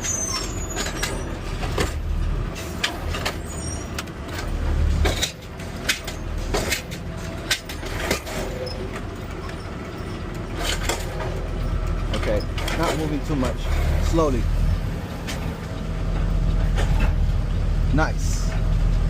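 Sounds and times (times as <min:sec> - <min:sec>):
garbage truck engine running: 0:00.0 - 0:19.0.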